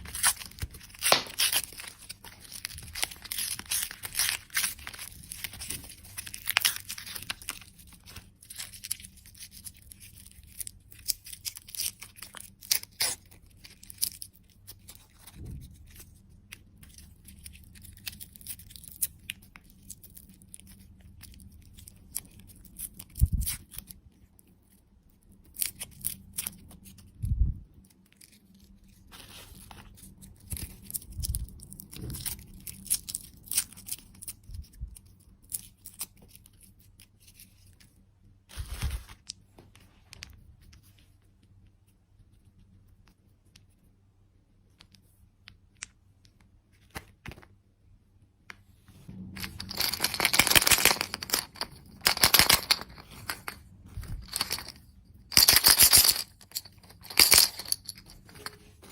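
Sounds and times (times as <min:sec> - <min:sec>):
candy wrapper crinkling and tearing: 0:00.0 - 0:27.2, 0:27.8 - 0:39.4, 0:49.4 - 0:58.3.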